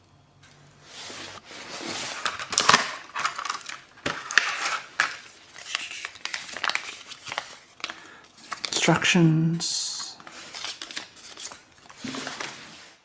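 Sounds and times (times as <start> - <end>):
packaging crinkling and rustling: 1.5 - 9.4, 10.0 - 13.0.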